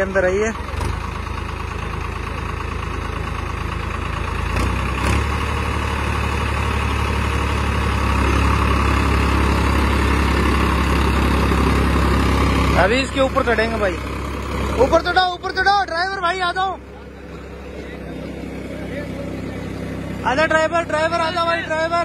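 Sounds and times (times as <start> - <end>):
tractor diesel engine humming: 0.0 - 22.0.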